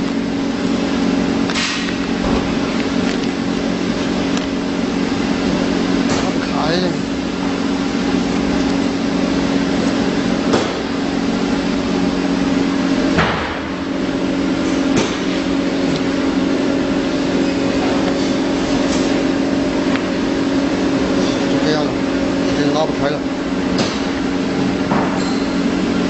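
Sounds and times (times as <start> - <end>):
welding machine humming: 0.0 - 26.0.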